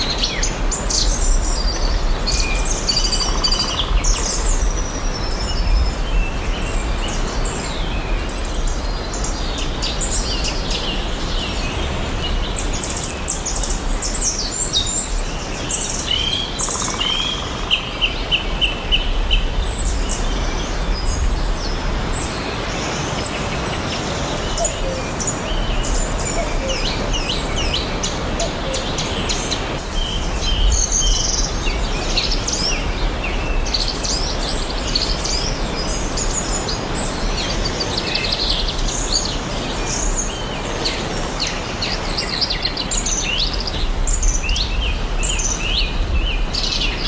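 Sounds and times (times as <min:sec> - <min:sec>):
birds chirping and singing: 0:00.0 - 0:47.0.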